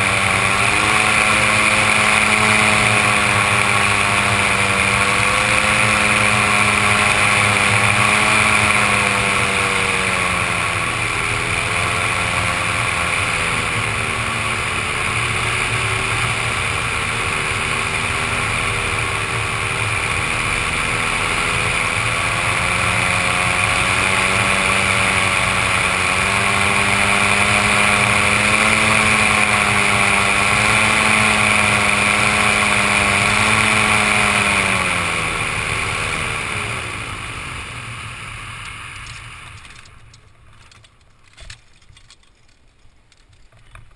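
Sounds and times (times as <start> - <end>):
engine and propeller running: 0.0 - 43.9.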